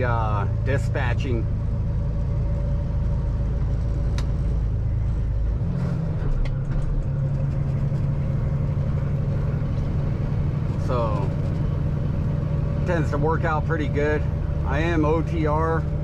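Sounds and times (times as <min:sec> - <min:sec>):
road noise: 0:00.0 - 0:16.0
truck diesel engine droning: 0:00.0 - 0:16.0.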